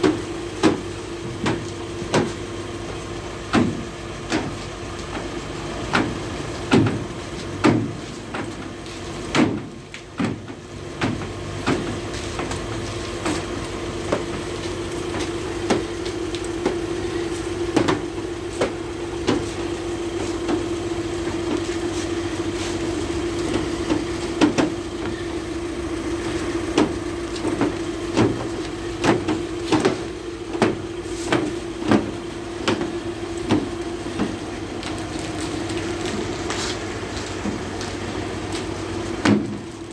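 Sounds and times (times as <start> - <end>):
steady machine hum: 0.0 - 39.9
foam brush scrubbing a van: 0.1 - 39.9.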